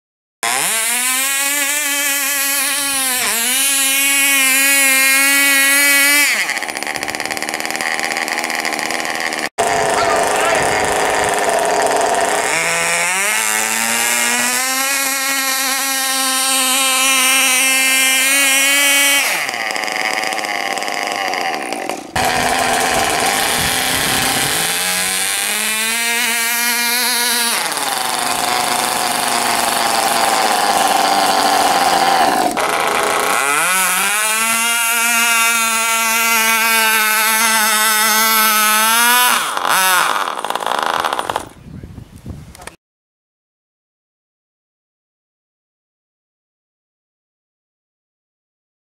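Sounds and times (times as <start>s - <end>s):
model tractor motors whining: 0.4s - 41.6s.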